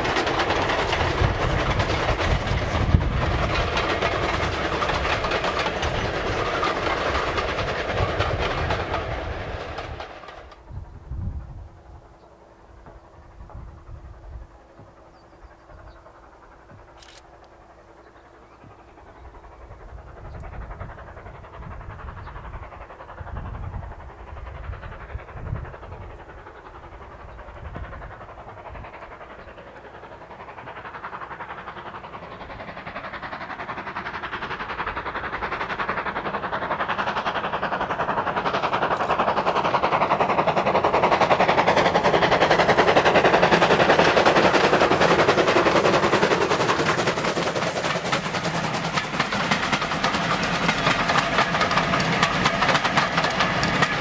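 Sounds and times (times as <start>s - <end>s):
steam locomotive exhaust beats: 0.0s - 54.0s
train wheels on rails: 0.0s - 54.0s.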